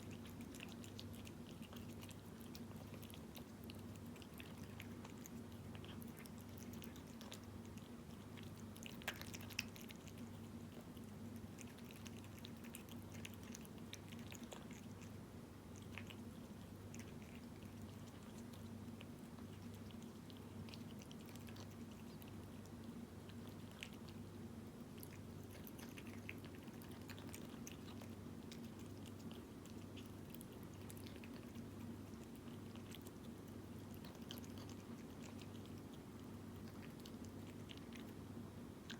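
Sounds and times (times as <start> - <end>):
cat chewing and lip-smacking: 0.0 - 38.9.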